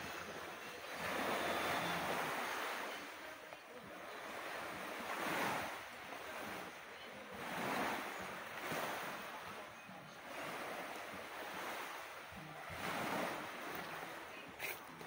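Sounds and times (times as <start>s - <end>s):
small waves washing on shore: 0.0s - 15.0s.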